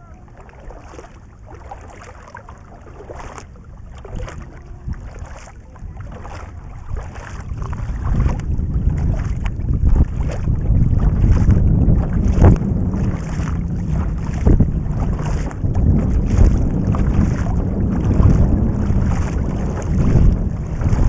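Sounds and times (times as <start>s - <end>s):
paddle strokes swishing through water: 0.0s - 21.0s
water running along hull: 0.0s - 21.0s
wind buffeting microphone: 0.0s - 21.0s.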